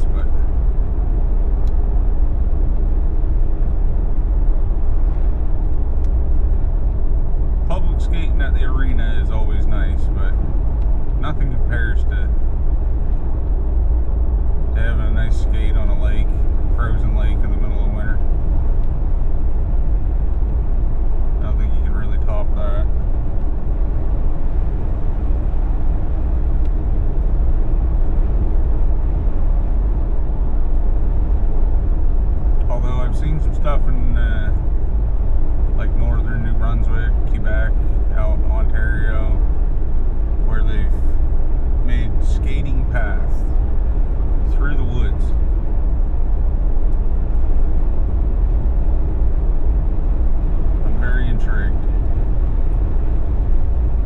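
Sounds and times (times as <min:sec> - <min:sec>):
car driving on road rumble: 0:00.0 - 0:54.0.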